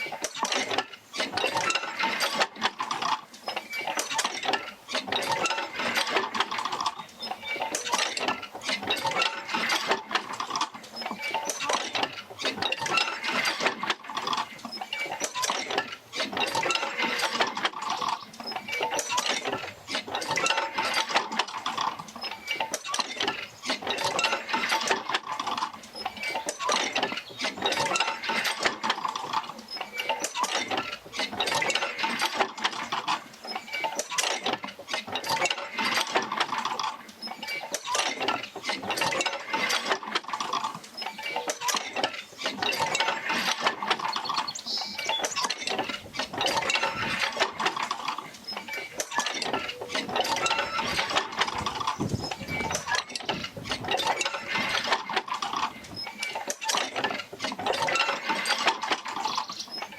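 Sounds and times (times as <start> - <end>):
clatter of knocks and rattles: 0.0 - 59.9.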